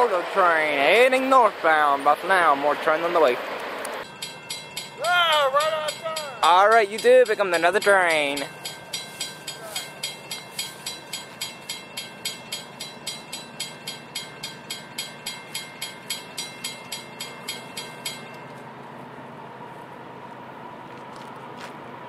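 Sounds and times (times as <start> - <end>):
railroad crossing bell ringing: 0.0 - 3.3, 4.0 - 20.1.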